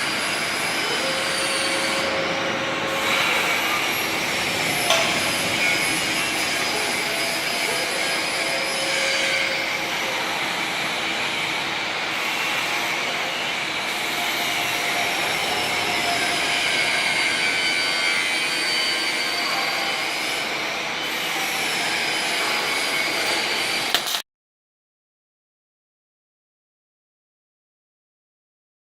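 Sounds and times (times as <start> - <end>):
robotic welding machinery running: 0.0 - 24.2.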